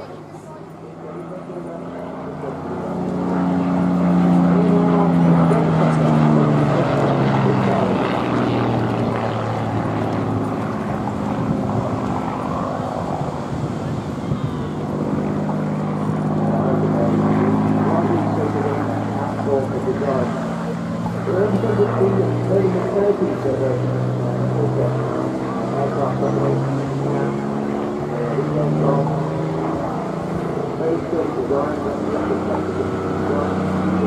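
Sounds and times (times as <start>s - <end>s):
propeller plane engine flying past: 0.0s - 34.0s.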